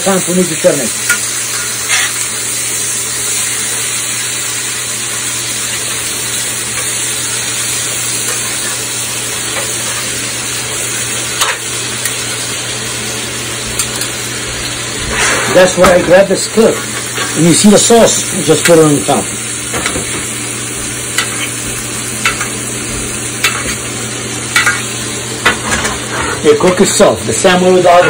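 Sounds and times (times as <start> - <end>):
steaks sizzling in a skillet: 0.0 - 28.0.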